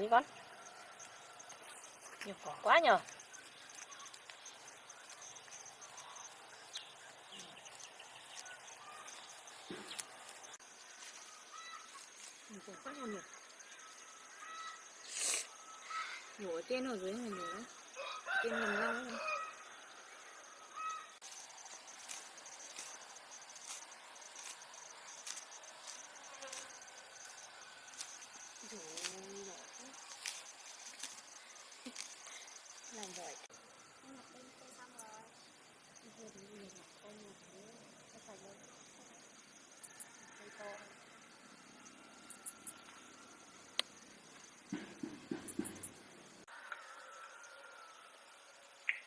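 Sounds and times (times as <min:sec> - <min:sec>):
crickets chirping: 0:00.0 - 0:49.0
insects trilling: 0:00.0 - 0:49.0.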